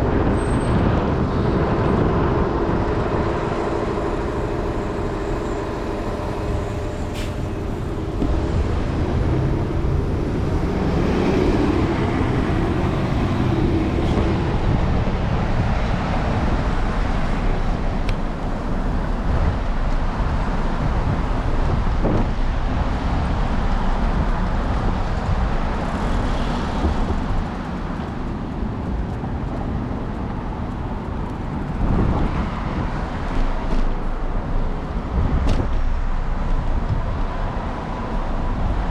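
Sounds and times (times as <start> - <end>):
faint engine hum: 0.0 - 38.9
low traffic rumble: 0.0 - 38.9
vehicles passing: 0.0 - 38.9.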